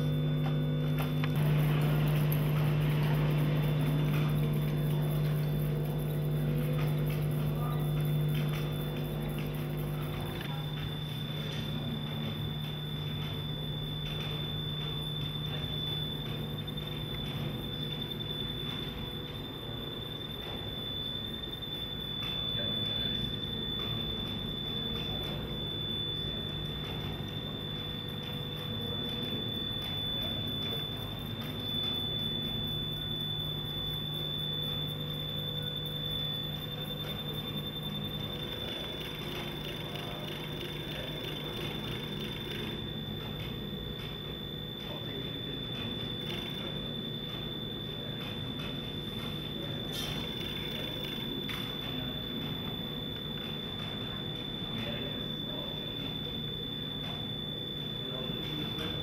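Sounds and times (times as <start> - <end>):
room noise: 0.0 - 59.0
steady high-pitched tone: 0.0 - 59.0.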